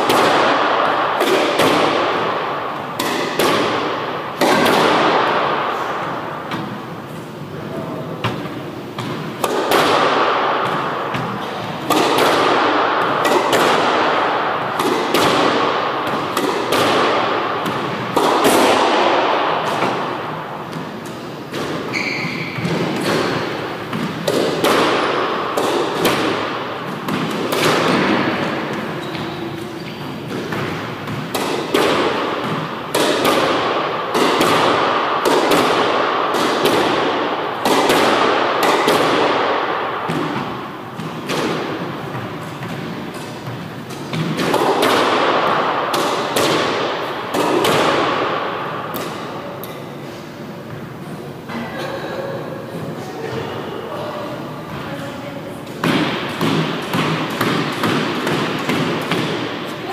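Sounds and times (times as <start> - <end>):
ball striking court walls: 0.0 - 7.4, 8.2 - 49.9, 55.7 - 59.9
racket hitting squash ball: 0.0 - 59.9.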